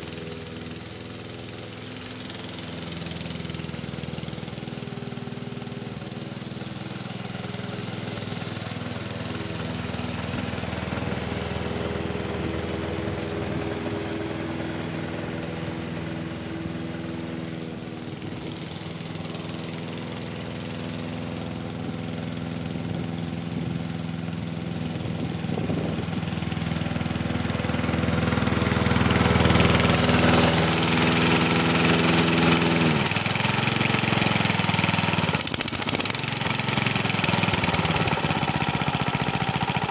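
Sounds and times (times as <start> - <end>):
lawn mower engine running: 0.0 - 39.9
mower blade cutting grass: 0.0 - 39.9.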